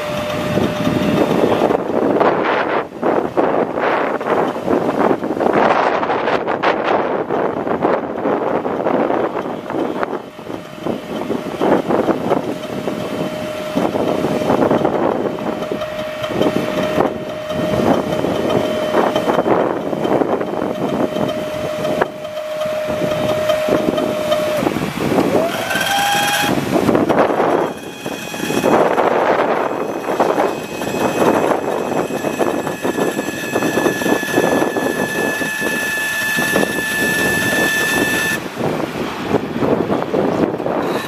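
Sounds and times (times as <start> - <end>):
machinery whining: 0.0 - 41.0
short rising whine: 0.0 - 41.0.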